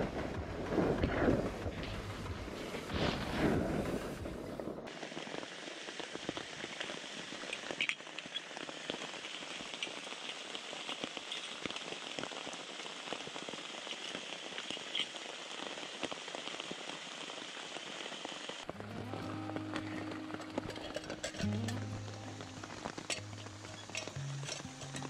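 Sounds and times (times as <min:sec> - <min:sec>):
raindrops ticking nearby: 0:00.0 - 0:25.0
steady rain: 0:00.0 - 0:25.0.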